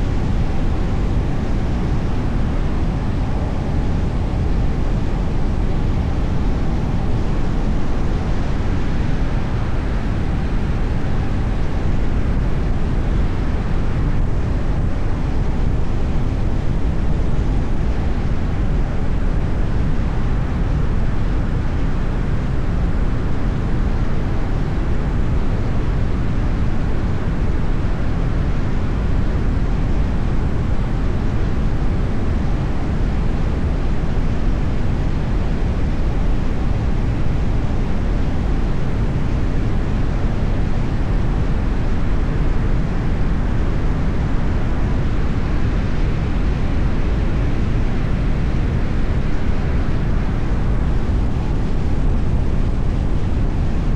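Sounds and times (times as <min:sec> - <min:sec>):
car road and wind noise: 0:00.0 - 0:53.9.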